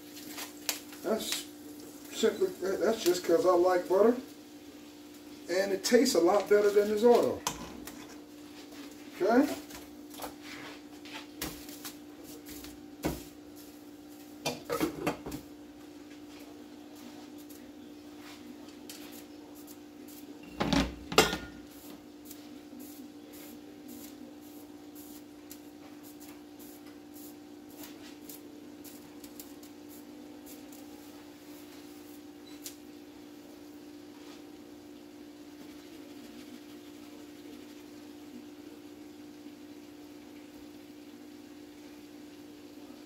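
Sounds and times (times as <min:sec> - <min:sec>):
chicken frying in butter: 0:00.0 - 0:17.8, 0:21.6 - 0:43.0.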